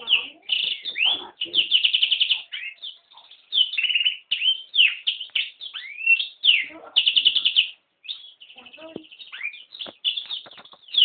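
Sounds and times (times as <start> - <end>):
songbird trilling and whistling: 0.0 - 11.0.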